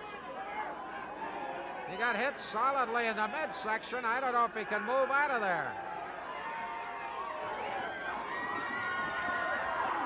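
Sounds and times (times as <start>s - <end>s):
crowd shouting and yelling: 0.0s - 10.0s.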